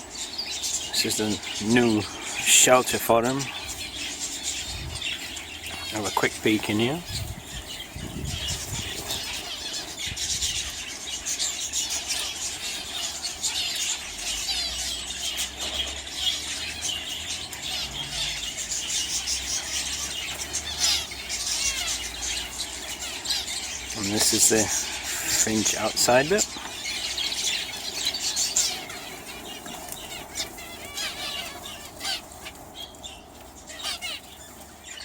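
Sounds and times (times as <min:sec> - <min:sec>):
finches chirping: 0:00.0 - 0:35.0.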